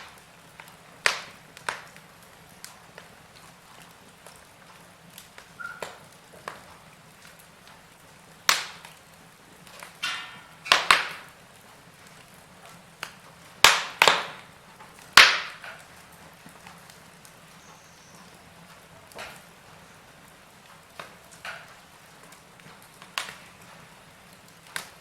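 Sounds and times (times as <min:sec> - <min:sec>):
hiss of flames: 0:00.0 - 0:25.0
wood fire crackling and popping: 0:00.0 - 0:25.0.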